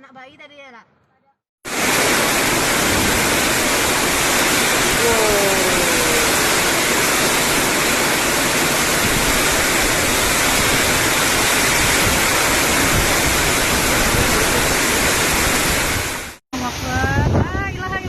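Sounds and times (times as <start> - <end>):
heavy rain pouring: 1.7 - 17.2.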